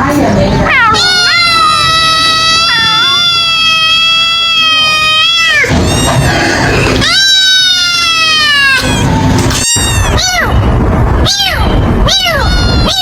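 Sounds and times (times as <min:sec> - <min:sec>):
kitten meowing: 0:00.7 - 0:13.0.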